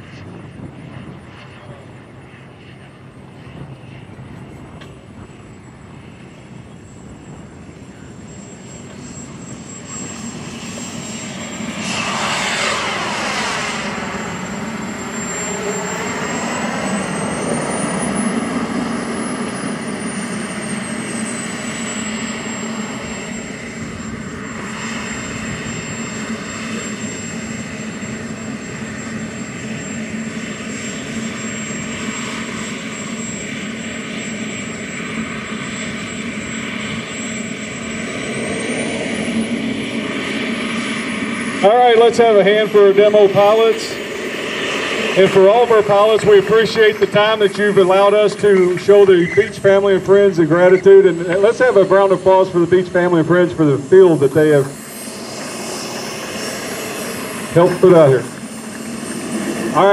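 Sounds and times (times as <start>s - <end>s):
model jet engine whine: 0.0s - 59.9s.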